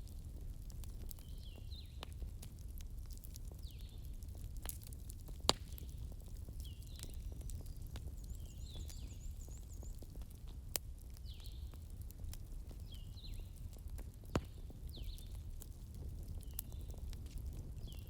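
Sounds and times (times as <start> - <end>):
sharp pops from fire: 0.0 - 18.0
wood fire crackling: 0.0 - 18.0.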